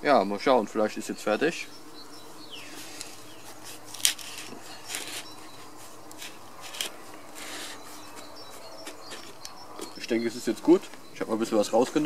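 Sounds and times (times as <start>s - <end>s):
flying insect buzzing: 0.4s - 12.0s.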